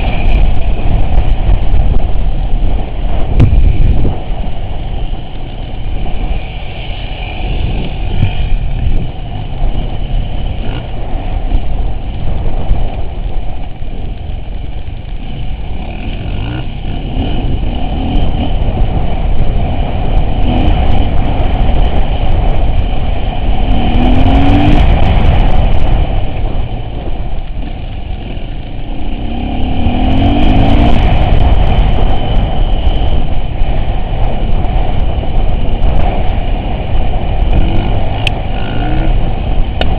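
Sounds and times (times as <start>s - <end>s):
off-road vehicle engine rumbling: 0.0s - 39.9s.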